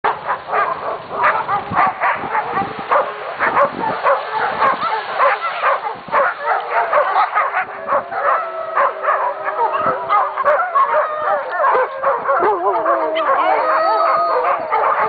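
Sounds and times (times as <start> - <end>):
dogs barking and howling: 0.0 - 15.0.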